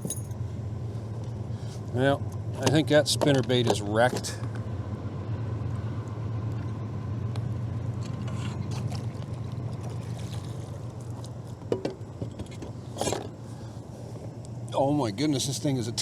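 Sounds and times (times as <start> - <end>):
boat motor humming: 0.0 - 15.4.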